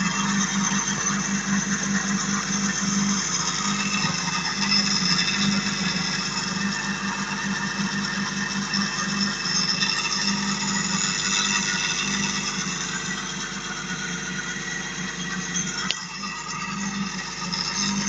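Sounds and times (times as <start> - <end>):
small electric motor whirring: 0.0 - 18.0.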